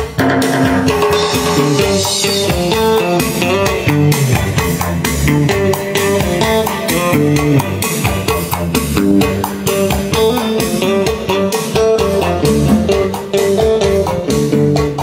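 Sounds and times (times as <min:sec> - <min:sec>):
guitar music with bass line: 0:00.0 - 0:15.0.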